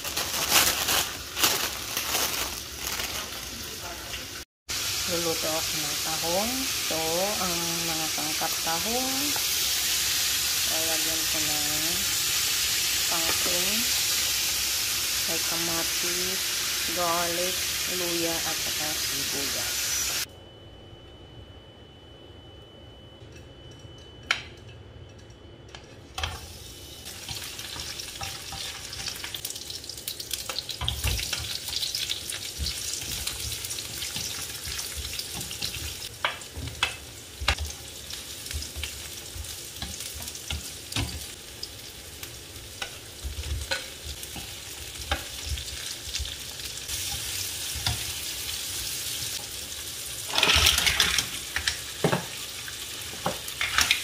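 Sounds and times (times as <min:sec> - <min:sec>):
onions sizzling in hot oil: 0:00.0 - 0:20.3, 0:26.2 - 0:54.0.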